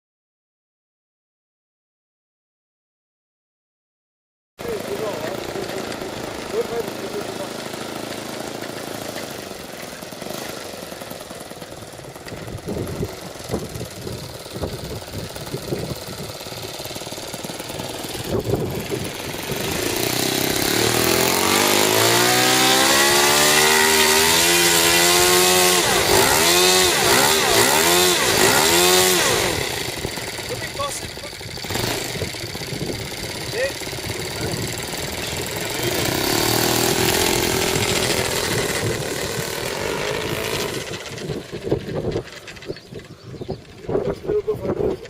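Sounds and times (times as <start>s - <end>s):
model airplane engine: 4.6s - 45.0s.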